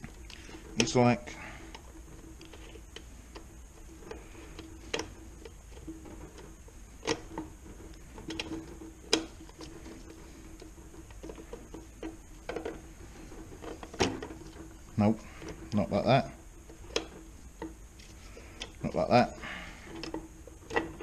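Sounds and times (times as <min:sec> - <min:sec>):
faint steady hum: 0:00.0 - 0:21.0
metal clicks and knocks: 0:01.7 - 0:21.0.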